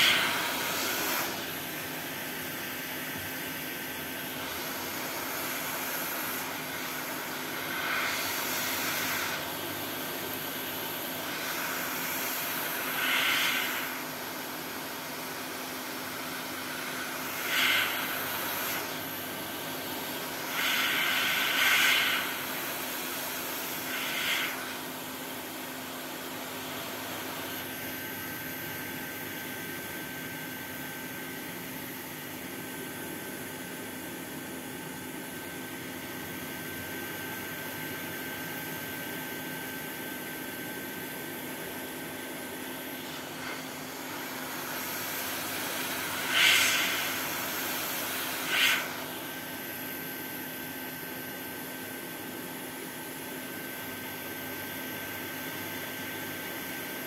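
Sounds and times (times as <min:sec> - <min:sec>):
hot air blowing: 0:00.0 - 0:34.4, 0:35.0 - 0:52.2.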